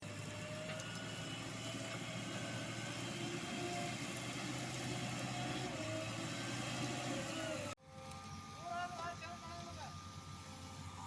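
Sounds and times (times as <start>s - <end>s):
diesel engine low hum: 0.0s - 11.0s.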